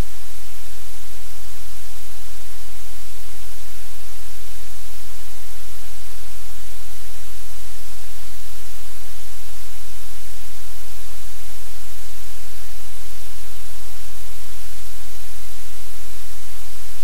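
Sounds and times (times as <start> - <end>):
static-like hiss: 0.0 - 17.0.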